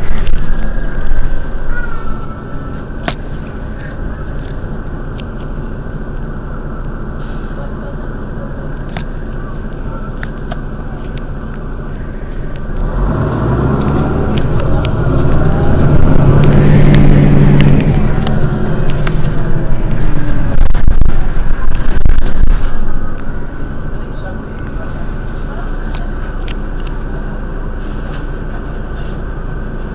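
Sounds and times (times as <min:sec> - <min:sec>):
bus engine idling: 0:00.0 - 0:29.9
road vehicle passing close: 0:00.0 - 0:29.9.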